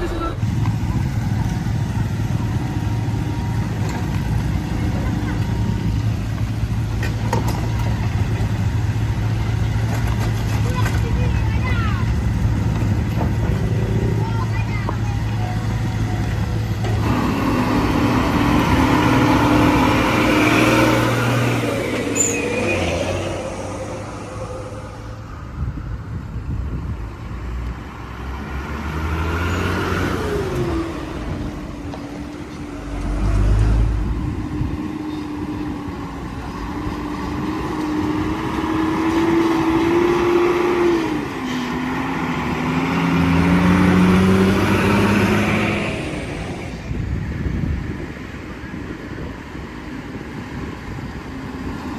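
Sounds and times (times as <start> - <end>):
heavy vehicle engines under load: 0.0 - 51.9.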